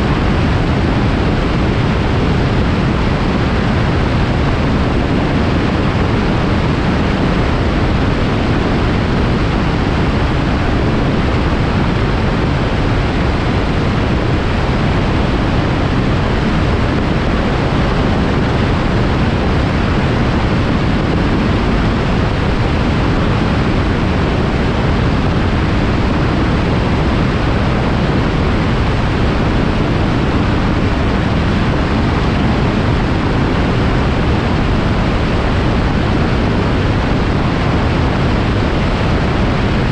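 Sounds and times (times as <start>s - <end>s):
aircraft engine noise: 0.0s - 39.9s
wind rushing: 0.0s - 39.9s.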